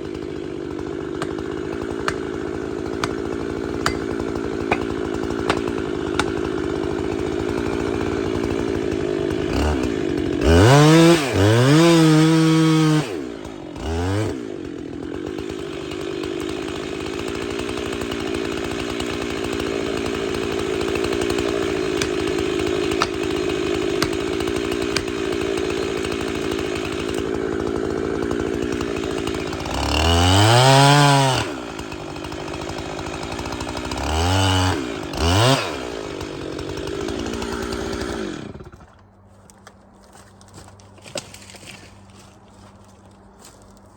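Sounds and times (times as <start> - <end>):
chainsaw revving: 0.0 - 39.0.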